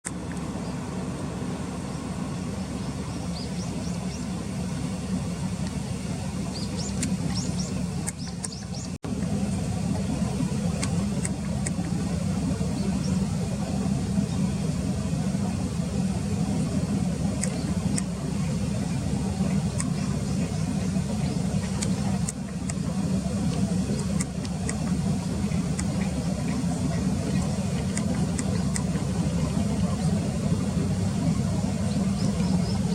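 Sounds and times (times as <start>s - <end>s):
distant road traffic rumble: 0.0s - 32.9s.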